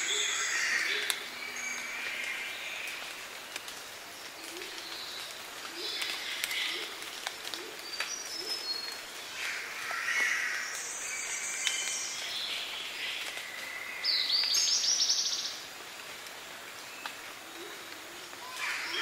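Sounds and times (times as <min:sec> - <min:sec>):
bird chorus: 0:00.0 - 0:15.7, 0:17.1 - 0:19.0.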